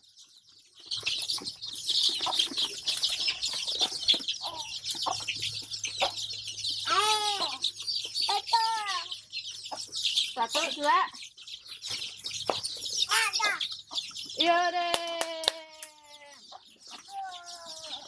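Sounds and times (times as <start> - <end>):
chicks peeping: 0.0 - 18.0
louder lower arching calls: 1.6 - 18.0.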